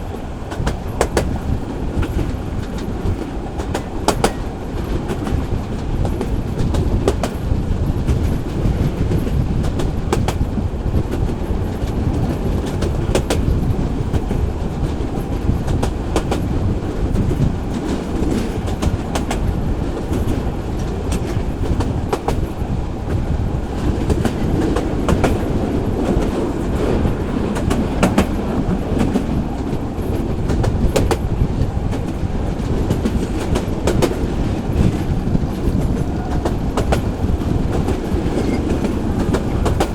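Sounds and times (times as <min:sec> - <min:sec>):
train rumbling along track: 0:00.0 - 0:39.9
train wheels clacking over rail joints: 0:00.0 - 0:39.9.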